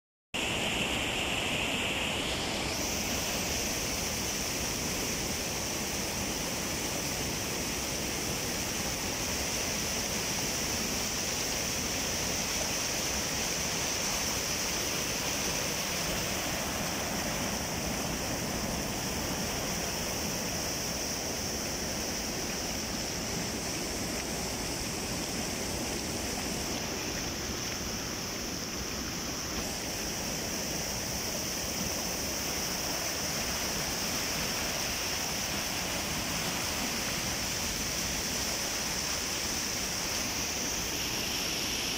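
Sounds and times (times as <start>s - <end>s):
river rapids rushing over rocks: 0.4s - 41.9s.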